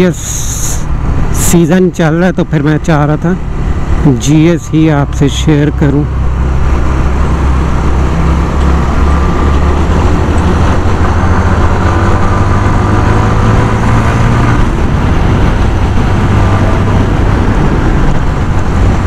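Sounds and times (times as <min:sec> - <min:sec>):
wind and road noise: 0:00.0 - 0:19.0
motorcycle engine running: 0:03.4 - 0:19.0.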